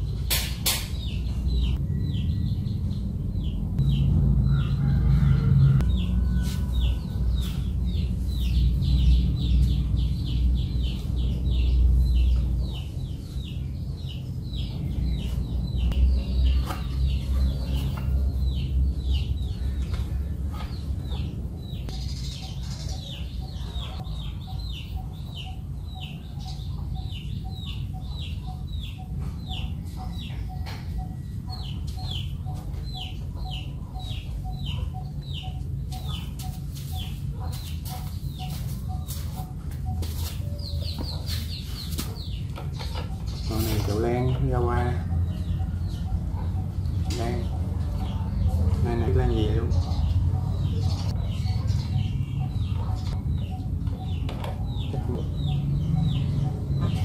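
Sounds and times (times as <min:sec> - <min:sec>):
chicks peeping: 0:00.1 - 0:57.0.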